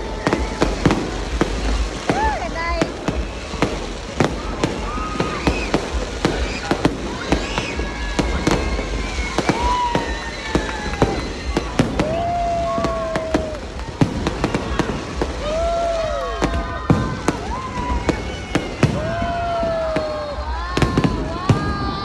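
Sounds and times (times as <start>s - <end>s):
firework bangs and crackles: 0.0s - 22.0s
firework whistles sliding down: 0.0s - 22.0s.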